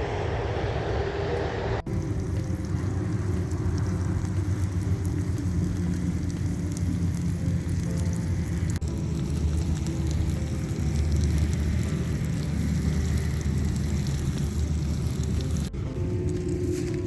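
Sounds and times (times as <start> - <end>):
low rumble: 0.0 - 17.0
food sizzling in a pan: 1.9 - 15.7
crackling campfire: 1.9 - 17.0.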